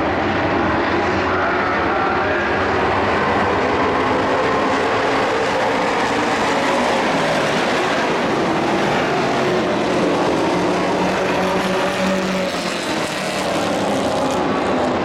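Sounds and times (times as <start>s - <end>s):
race truck engines droning: 0.0s - 15.0s.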